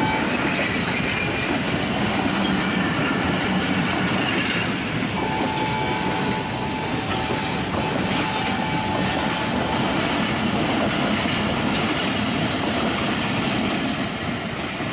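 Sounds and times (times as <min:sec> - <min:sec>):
train wheels running over rails: 0:00.0 - 0:14.9.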